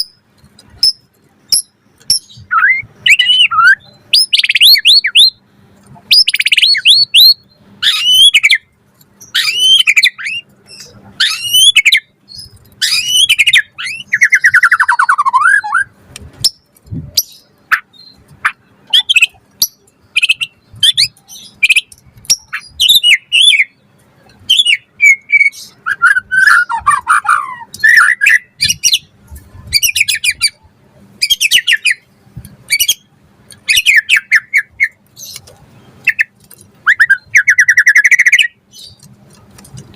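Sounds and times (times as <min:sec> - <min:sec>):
songbird whistling and chattering: 0:00.8 - 0:05.4, 0:06.1 - 0:23.8, 0:24.5 - 0:30.6, 0:31.2 - 0:32.1, 0:32.7 - 0:35.4, 0:36.0 - 0:39.0.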